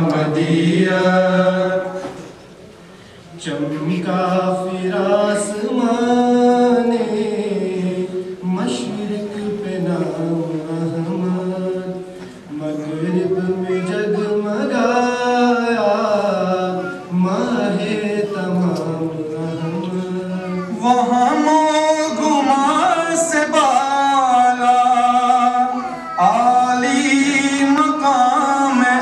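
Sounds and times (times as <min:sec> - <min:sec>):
group of men singing in unison: 0:00.0 - 0:02.4, 0:03.4 - 0:29.0.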